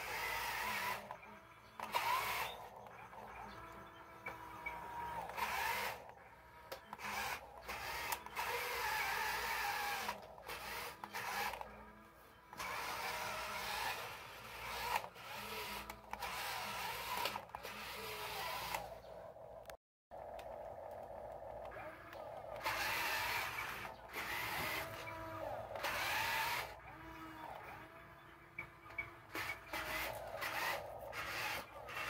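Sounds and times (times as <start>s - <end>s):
toy motors whining: 0.0s - 32.0s.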